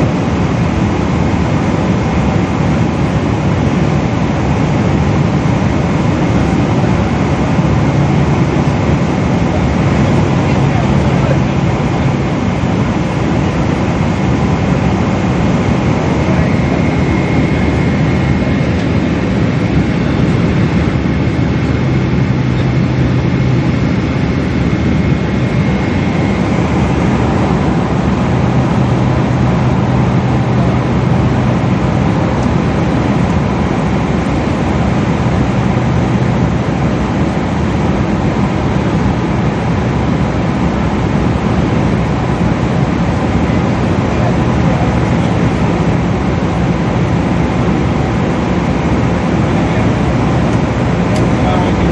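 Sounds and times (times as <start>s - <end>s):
jet engine cabin rumble: 0.0s - 51.9s.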